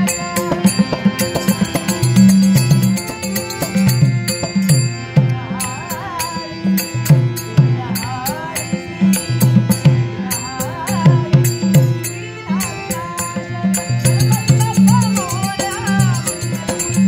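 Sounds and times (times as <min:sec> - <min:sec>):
person singing: 0:00.0 - 0:02.4, 0:05.1 - 0:17.0
harmonium notes: 0:00.0 - 0:17.0
small hand cymbals: 0:00.0 - 0:17.0.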